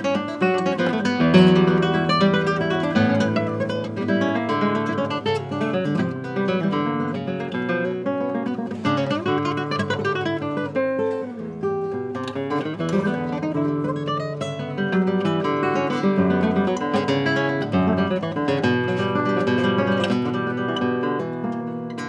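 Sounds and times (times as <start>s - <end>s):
classical guitar: 0.0s - 22.0s.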